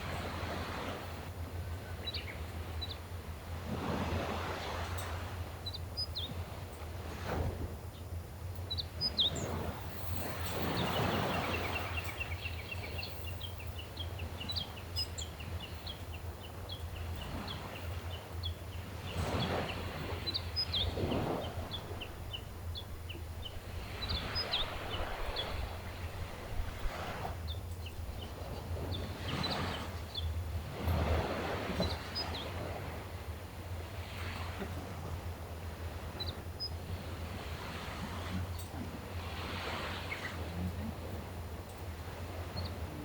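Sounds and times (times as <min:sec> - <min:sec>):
sea waves washing ashore: 0:00.0 - 0:43.0
birds chirping: 0:01.5 - 0:03.3, 0:04.9 - 0:06.9, 0:07.9 - 0:34.8, 0:35.5 - 0:43.0.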